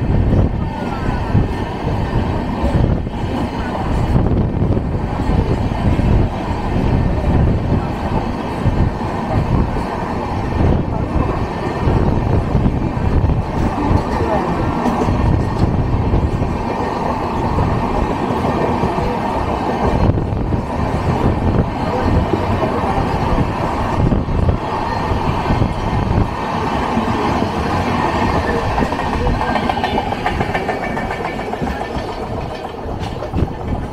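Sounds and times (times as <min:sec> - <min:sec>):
clickety-clack over rail joints: 0:00.0 - 0:33.9
train wheels rumbling on rails: 0:00.0 - 0:33.9.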